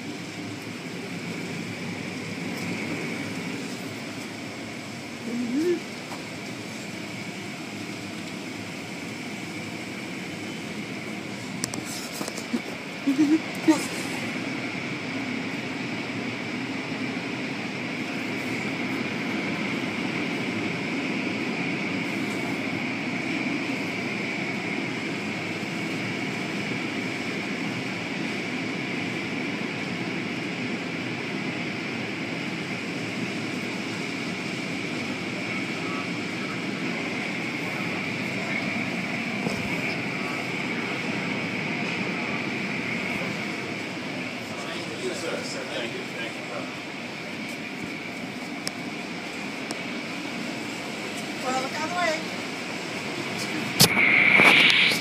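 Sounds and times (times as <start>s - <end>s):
machinery whirring: 0.0s - 55.0s.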